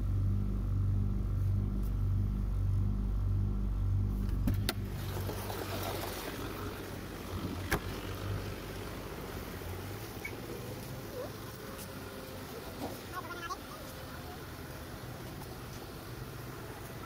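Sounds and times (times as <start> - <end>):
low rumble inside car cabin: 0.0 - 17.0
street traffic noise: 0.0 - 17.0.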